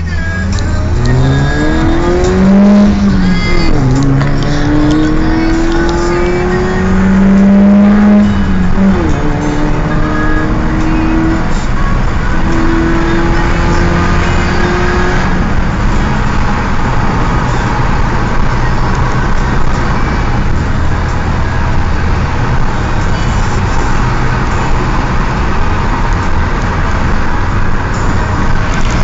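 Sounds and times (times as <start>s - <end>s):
car engine accelerating: 0.0s - 29.0s
road noise: 0.0s - 29.0s.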